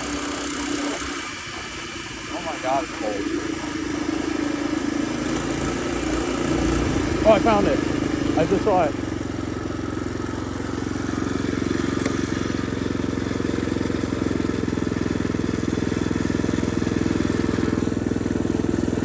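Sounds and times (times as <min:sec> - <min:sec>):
small engine idling: 0:00.0 - 0:19.0.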